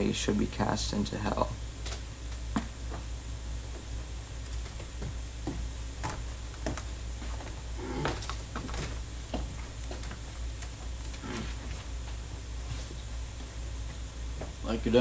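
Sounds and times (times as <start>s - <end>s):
low room hum: 0.0s - 15.0s
footsteps on wood: 1.9s - 14.6s.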